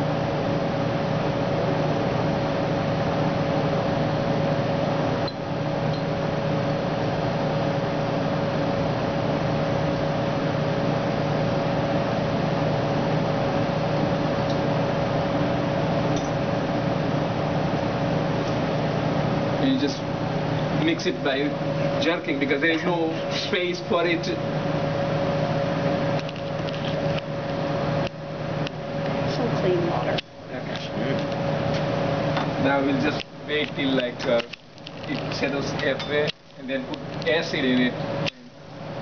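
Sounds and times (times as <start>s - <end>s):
machine hum and hiss: 0.0s - 39.0s.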